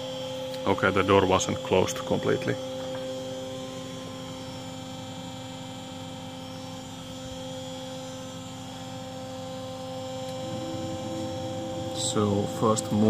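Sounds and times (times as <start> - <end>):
lathe electrical hum: 0.0 - 13.0.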